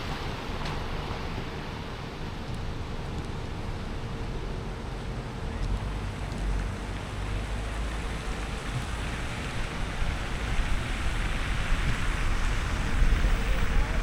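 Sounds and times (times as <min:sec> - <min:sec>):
low road rumble: 0:00.0 - 0:14.0.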